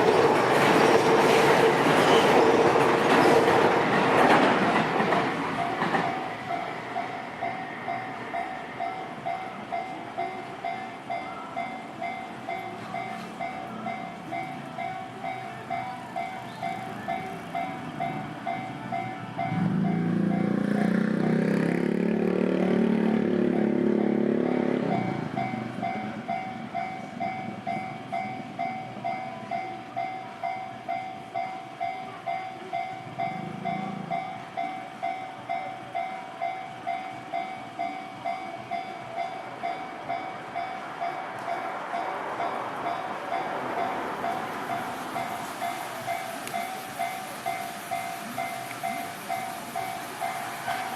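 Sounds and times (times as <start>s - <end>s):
train passing: 0.0s - 50.9s.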